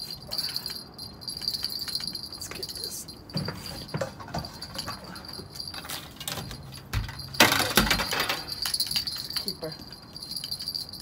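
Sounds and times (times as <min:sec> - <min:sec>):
handling rustle: 0:00.0 - 0:11.0.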